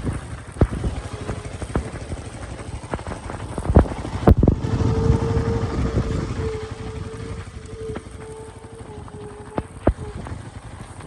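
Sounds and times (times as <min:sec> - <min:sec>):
steady hum: 0:00.0 - 0:11.0
vehicle rumbling on rough road: 0:00.0 - 0:11.0.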